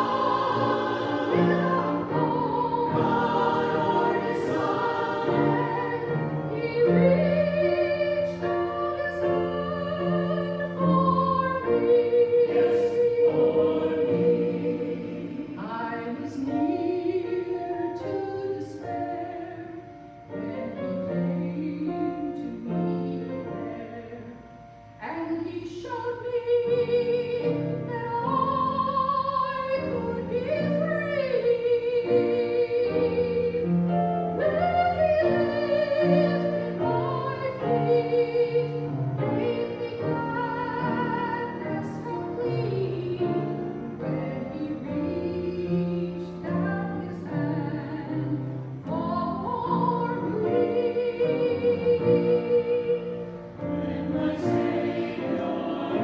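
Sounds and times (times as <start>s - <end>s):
person singing with vibrato: 0.0s - 56.0s.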